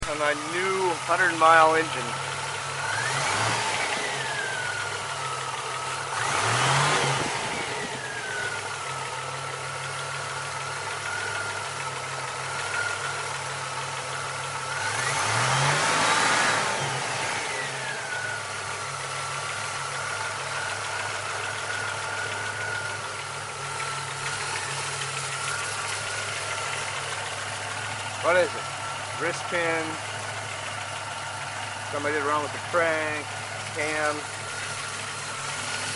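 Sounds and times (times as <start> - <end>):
car engine idling and revving: 0.0 - 35.9
engine knocking: 0.0 - 35.9.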